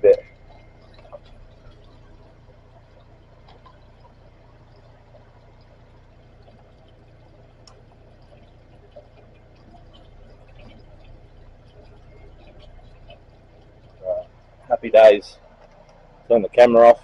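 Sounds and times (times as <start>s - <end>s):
tap water pouring into drain: 0.0s - 16.9s.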